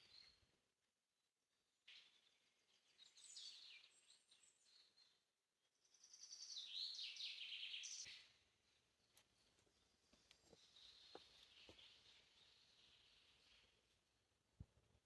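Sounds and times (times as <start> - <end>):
faint songbird singing: 0.0 - 0.5, 1.8 - 14.1.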